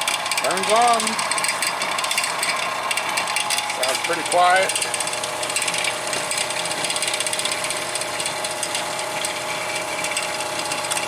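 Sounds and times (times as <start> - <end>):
bandsaw motor humming and ticking: 0.0 - 11.0.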